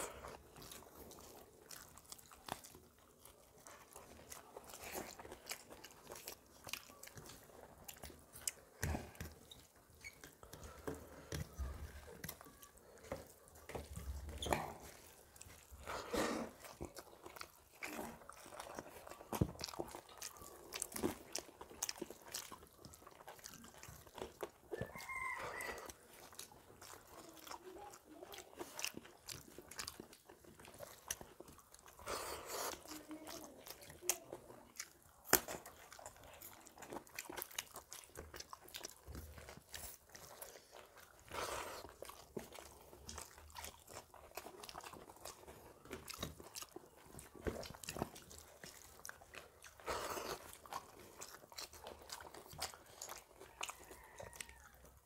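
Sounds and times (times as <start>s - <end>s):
chewing and mouth sounds: 0.0s - 55.0s.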